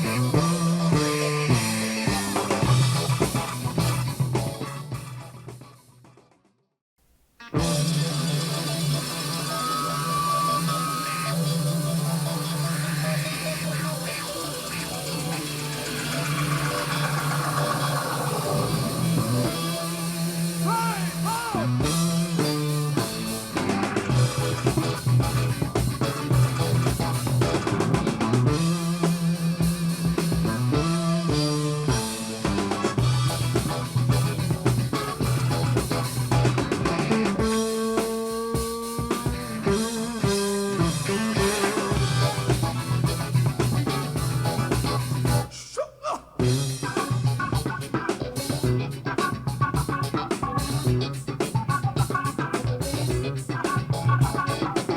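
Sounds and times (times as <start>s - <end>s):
funk music over speakers: 0.0s - 6.0s, 7.4s - 54.9s
bass guitar line: 0.0s - 6.4s, 7.4s - 45.5s, 46.4s - 54.9s.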